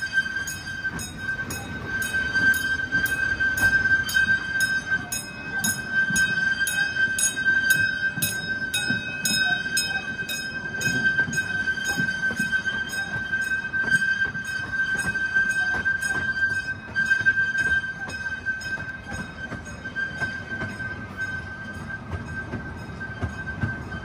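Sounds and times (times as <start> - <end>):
rhythmic train clatter: 0.0 - 24.0
tour train high whine: 0.0 - 24.0.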